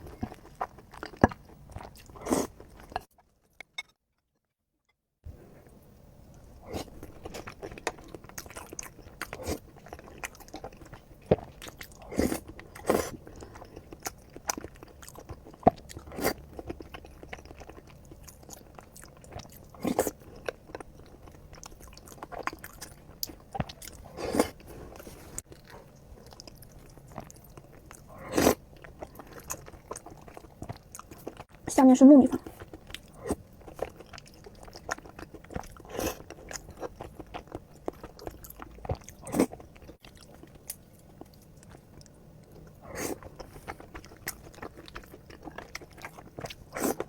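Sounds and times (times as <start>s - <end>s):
person chewing food: 0.0s - 3.3s, 6.3s - 31.6s, 32.4s - 47.0s.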